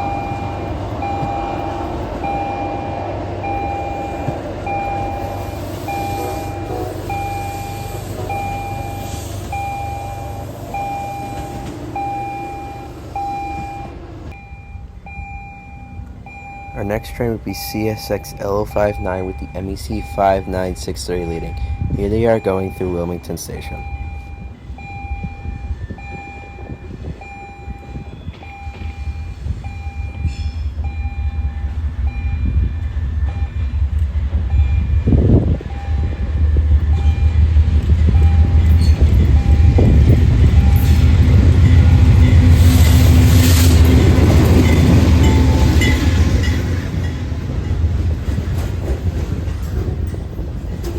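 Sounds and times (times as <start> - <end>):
electronic warning tone: 0.0 - 33.8, 34.5 - 47.0
train rumble: 0.0 - 50.9.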